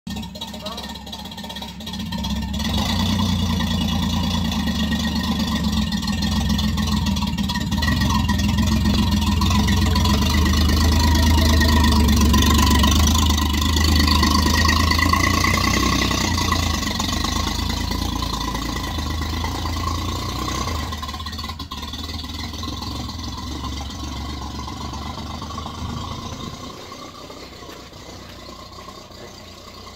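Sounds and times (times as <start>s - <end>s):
car engine driving past: 1.6s - 29.9s.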